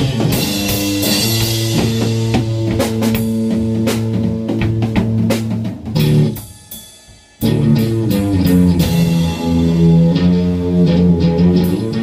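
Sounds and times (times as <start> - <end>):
rock band playing: 0.0 - 6.8, 7.4 - 12.0.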